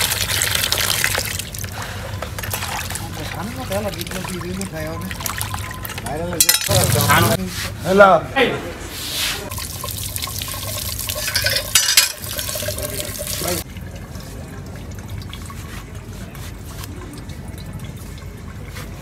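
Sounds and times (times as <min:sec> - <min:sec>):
tap water running and splashing: 0:00.0 - 0:07.4, 0:09.5 - 0:19.0.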